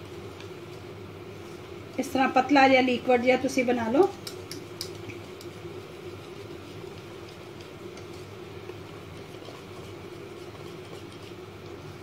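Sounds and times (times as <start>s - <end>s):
low steady hum: 0.0s - 12.0s
whisk swishing batter: 1.4s - 12.0s.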